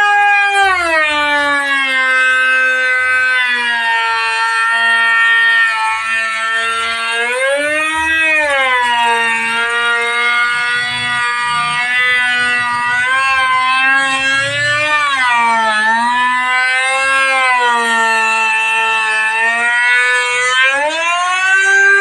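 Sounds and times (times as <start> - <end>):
woodworking machine whining: 1.2 - 22.0.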